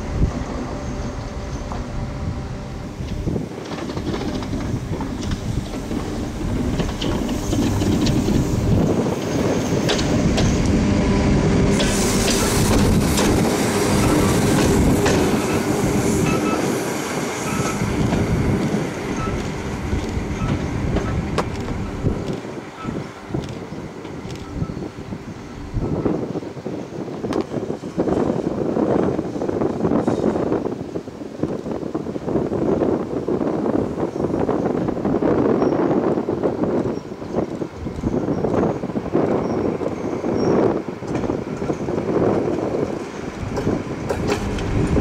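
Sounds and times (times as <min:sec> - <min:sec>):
train wheels clattering over rails: 0:02.9 - 0:30.6, 0:35.4 - 0:45.0.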